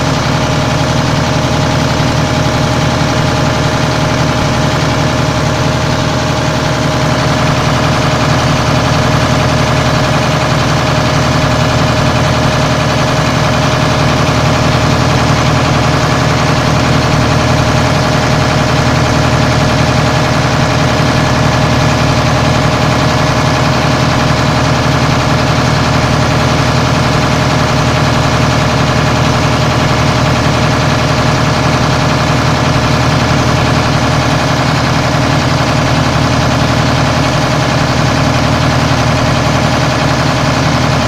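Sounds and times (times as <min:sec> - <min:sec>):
pump machine hum with tone: 0:00.0 - 0:41.0.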